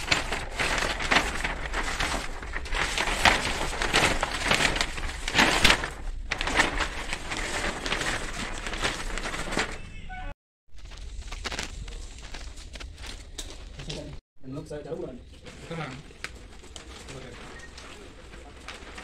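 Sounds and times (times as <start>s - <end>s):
stiff paper rustling and crackling: 0.0s - 9.9s, 10.7s - 14.2s, 14.9s - 19.0s.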